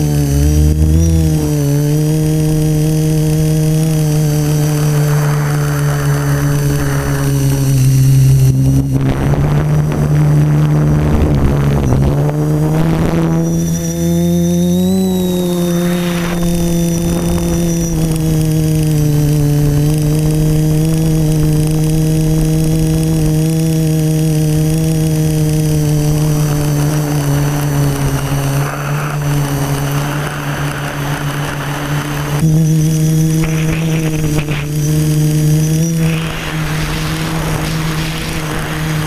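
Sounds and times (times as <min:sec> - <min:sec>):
quadcopter propellers buzzing: 0:00.0 - 0:39.0.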